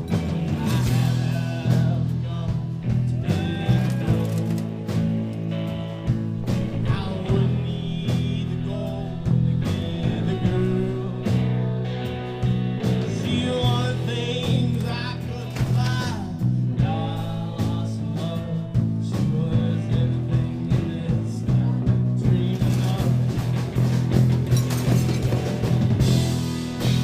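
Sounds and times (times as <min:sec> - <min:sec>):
bass line: 0:00.0 - 0:27.0
drums: 0:00.0 - 0:27.0
electric guitar: 0:00.0 - 0:27.0.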